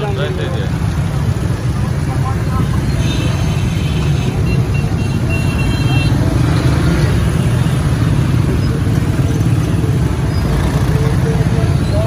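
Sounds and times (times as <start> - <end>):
busy street traffic: 0.0 - 12.0
motorcycle engine rumble: 0.0 - 12.0.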